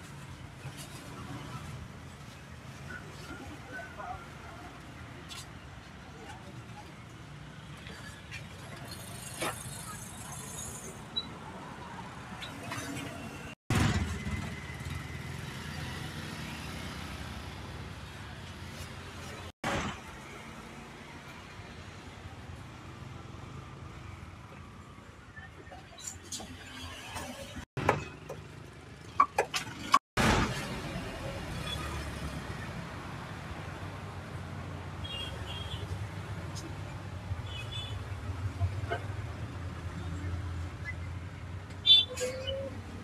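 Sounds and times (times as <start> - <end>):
low rumble of traffic: 0.0 - 43.0
vehicles passing on busy street: 0.0 - 43.0.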